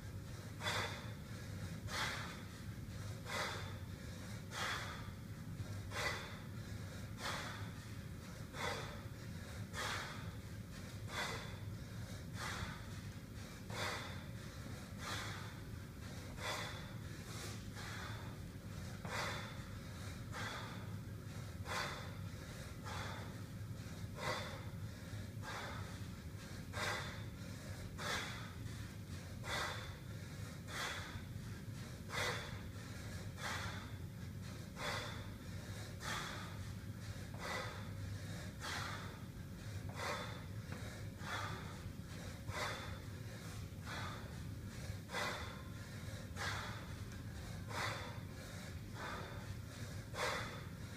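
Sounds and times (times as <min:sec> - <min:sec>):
man breathing sharply: 0:00.0 - 0:50.9
steady low hum: 0:00.0 - 0:50.9.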